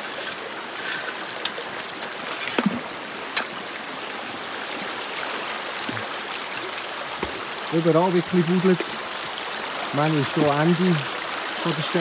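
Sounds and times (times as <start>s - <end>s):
creek flowing over stones: 0.0s - 12.0s.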